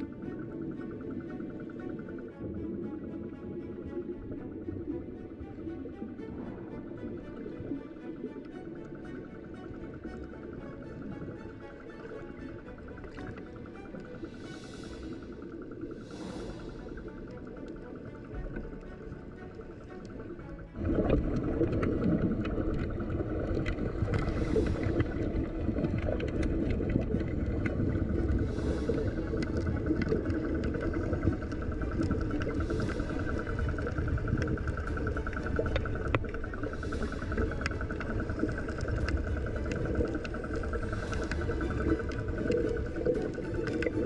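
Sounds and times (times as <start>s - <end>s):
bubbles hissing: 0.0s - 44.0s
muffled boat engine underwater: 0.0s - 44.0s.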